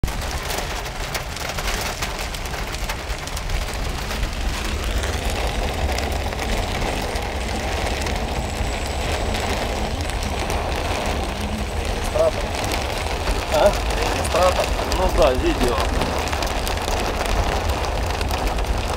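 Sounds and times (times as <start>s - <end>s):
car engine rumble: 0.0s - 18.9s
heavy rain on car roof: 0.0s - 18.9s
tyres on wet road: 0.0s - 18.9s.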